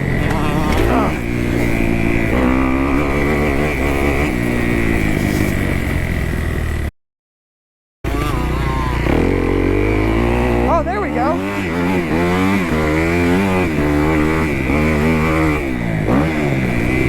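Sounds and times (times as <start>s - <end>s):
motorcycle engine revving: 0.0s - 6.9s, 8.1s - 17.0s.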